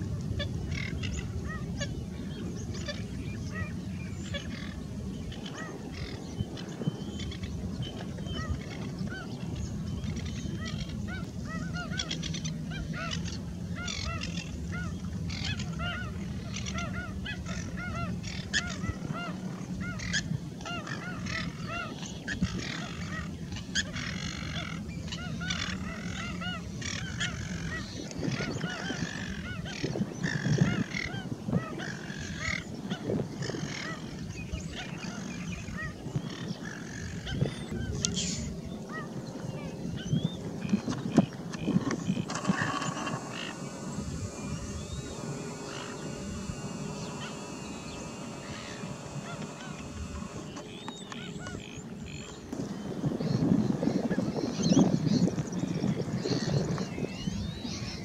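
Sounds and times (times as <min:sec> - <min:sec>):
low steady hum: 0:00.0 - 0:58.0
waterbirds honking: 0:00.3 - 0:58.0.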